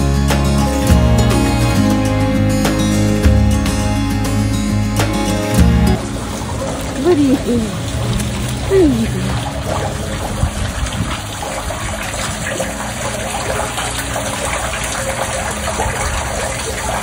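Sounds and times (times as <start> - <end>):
water rushing into drain: 0.0 - 17.0.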